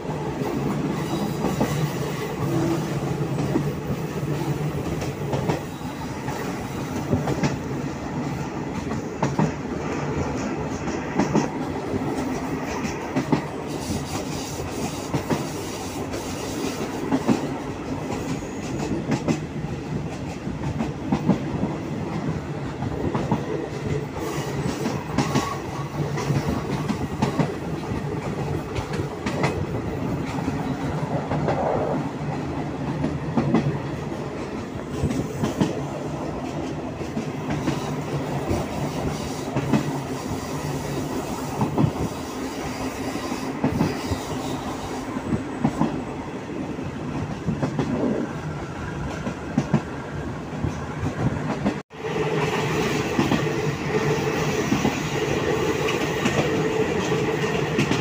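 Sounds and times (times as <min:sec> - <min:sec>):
train carriage rumbling on track: 0:00.0 - 0:58.0.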